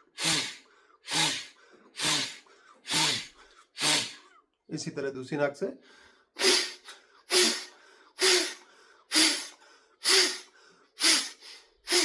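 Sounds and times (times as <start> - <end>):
forceful nasal exhalations: 0.0 - 4.4, 6.0 - 12.0.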